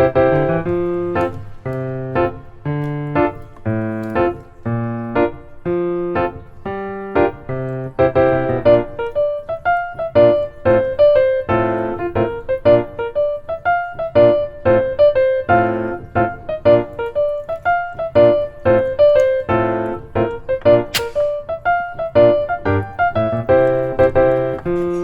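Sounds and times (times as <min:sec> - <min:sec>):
light piano tune: 0:00.0 - 0:25.0.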